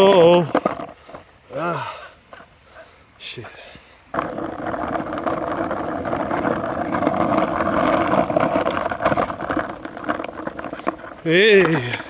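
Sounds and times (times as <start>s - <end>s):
skateboard wheels rolling on rough ground: 0.0s - 12.0s.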